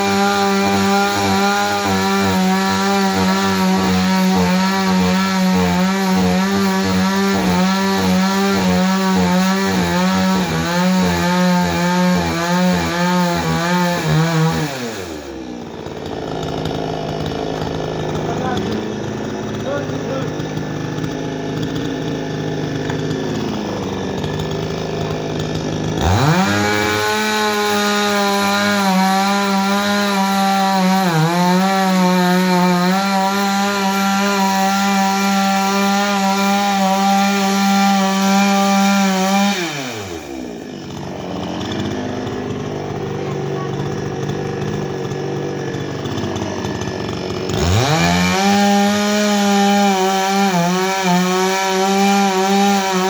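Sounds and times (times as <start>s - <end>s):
chainsaw idling and revving: 0.0s - 53.0s.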